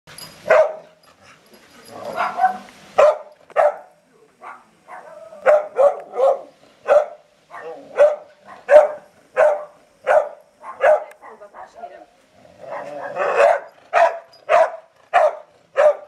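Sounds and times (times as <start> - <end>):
dog barking: 0.5 - 1.0, 2.1 - 11.8, 12.7 - 16.0.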